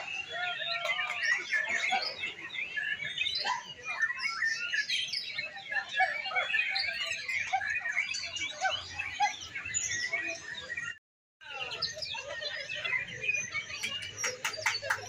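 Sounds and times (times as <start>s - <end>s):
songbirds chorus: 0.0s - 15.0s.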